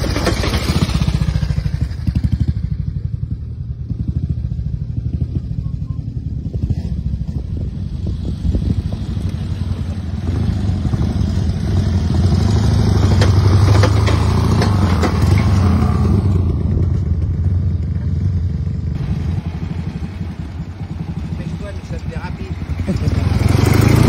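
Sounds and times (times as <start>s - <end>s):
motorcycle engine passing: 0.0s - 24.0s
motorcycles running: 0.0s - 24.0s.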